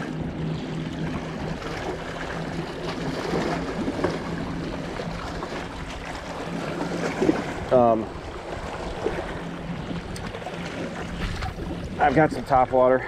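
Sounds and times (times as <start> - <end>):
low steady hum: 0.0 - 13.0
waves lapping against rocks: 1.0 - 13.0.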